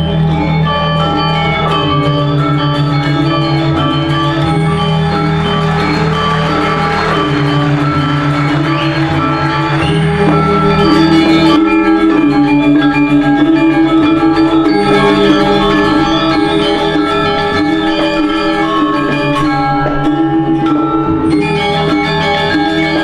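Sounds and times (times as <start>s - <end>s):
pop music with mallet tones: 0.0s - 23.0s.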